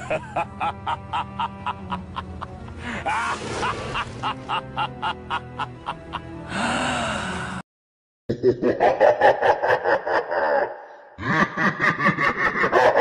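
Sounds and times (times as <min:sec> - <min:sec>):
villain laughing: 0:00.0 - 0:06.4, 0:08.3 - 0:13.0.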